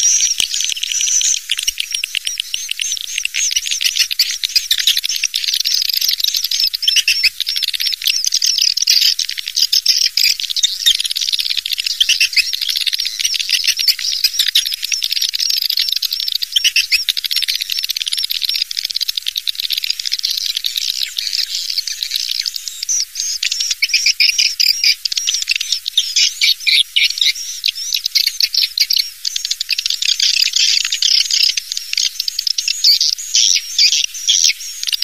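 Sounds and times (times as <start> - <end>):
swiftlets chittering and twittering: 0.0 - 35.0.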